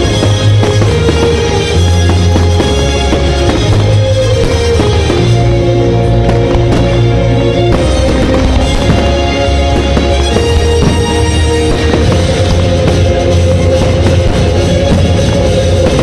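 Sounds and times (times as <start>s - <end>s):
firework bangs and crackles: 0.0s - 16.0s.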